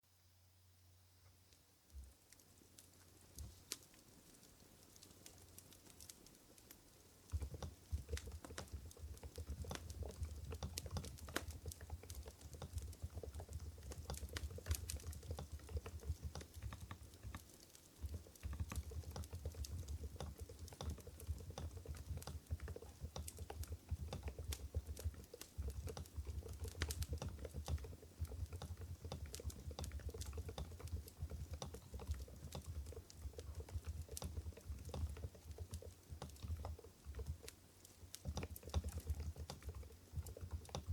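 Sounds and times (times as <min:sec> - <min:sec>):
soft keyboard typing: 0:02.4 - 0:40.9.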